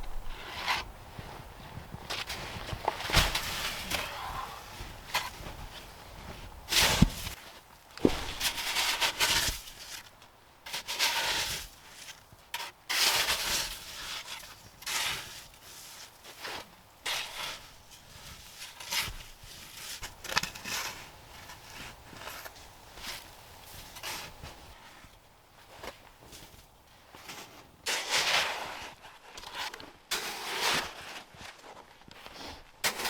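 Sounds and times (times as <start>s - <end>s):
snow crunching and scraping: 0.0s - 33.0s.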